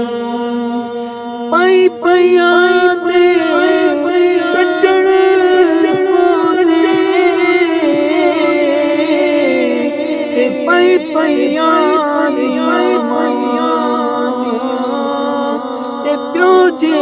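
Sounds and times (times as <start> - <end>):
man singing solo: 1.5 - 17.0.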